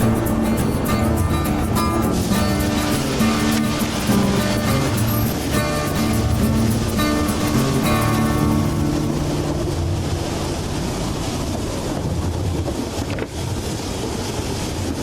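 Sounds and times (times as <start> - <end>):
train rumbling along track: 0.0 - 15.0
wind on microphone: 0.0 - 15.0.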